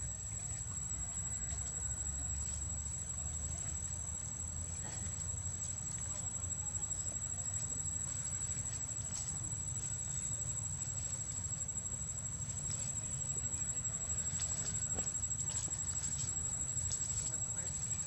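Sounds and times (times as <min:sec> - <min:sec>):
rustles: 0:00.0 - 0:18.0.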